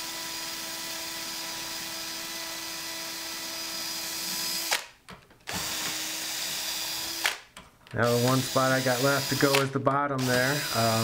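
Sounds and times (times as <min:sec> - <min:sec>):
electric drill grinding metal: 0:00.0 - 0:04.9, 0:05.5 - 0:11.0.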